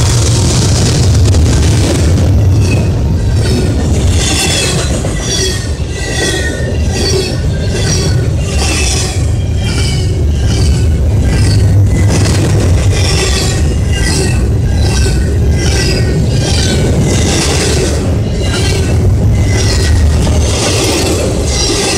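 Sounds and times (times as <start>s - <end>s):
train wheels rumbling on rail: 0.0s - 21.9s
metallic wheel squeals: 2.6s - 12.1s, 13.0s - 21.9s.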